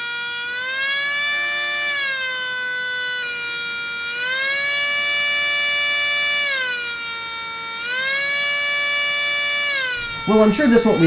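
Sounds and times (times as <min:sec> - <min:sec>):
miniature siren whining tone: 0:00.0 - 0:11.0.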